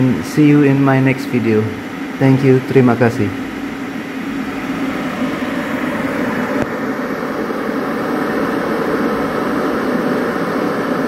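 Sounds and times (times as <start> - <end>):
electric kettle heating water: 0.0 - 11.0.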